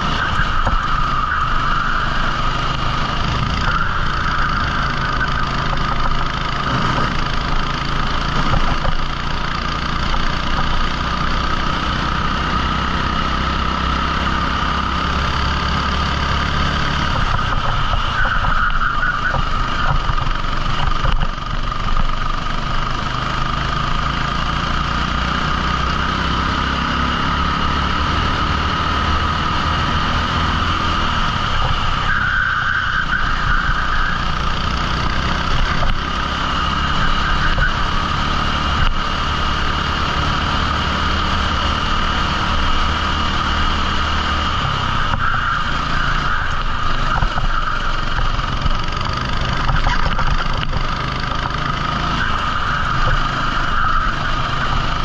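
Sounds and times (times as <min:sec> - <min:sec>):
kart engine running: 0:00.0 - 0:55.0.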